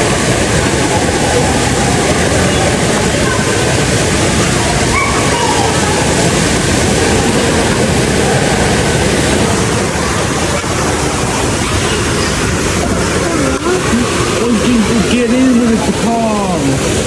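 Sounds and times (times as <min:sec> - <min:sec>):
falling water rushing: 0:00.0 - 0:17.0.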